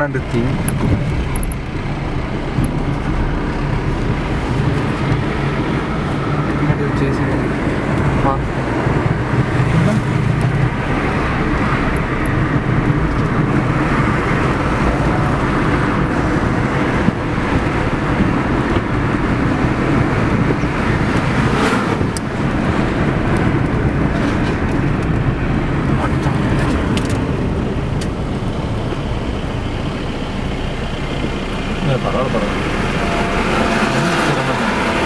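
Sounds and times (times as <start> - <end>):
traffic engine and tyre noise: 0.0 - 35.0.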